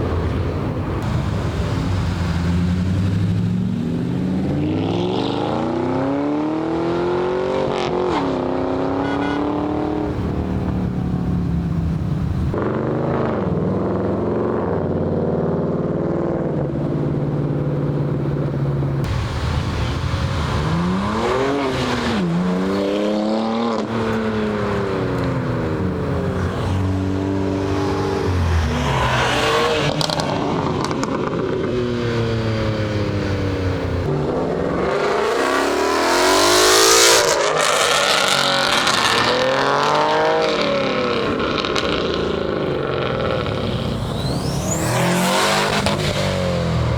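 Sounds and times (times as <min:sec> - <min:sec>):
cars accelerating and revving past: 0:00.0 - 0:46.9.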